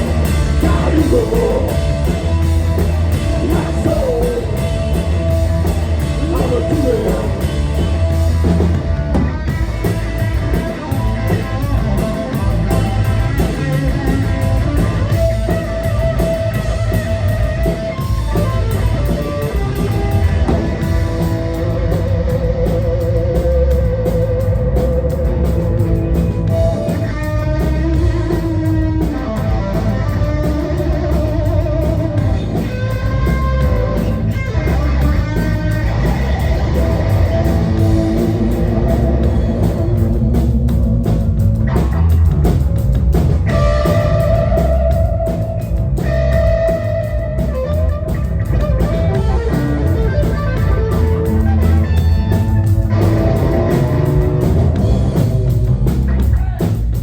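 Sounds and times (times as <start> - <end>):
bass guitar: 0.0 - 57.0
distorted electric guitars: 0.0 - 57.0
drums: 0.0 - 57.0.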